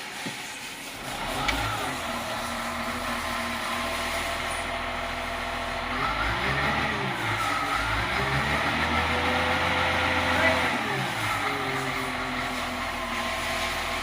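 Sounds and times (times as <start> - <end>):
diesel engine starting and running: 0.0 - 14.0.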